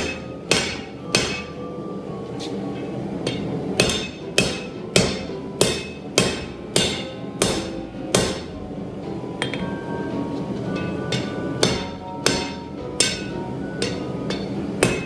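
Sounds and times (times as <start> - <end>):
hammer striking metal on anvil: 0.0 - 1.7, 2.8 - 8.6, 9.4 - 9.8, 10.7 - 15.0
background music: 0.0 - 15.0.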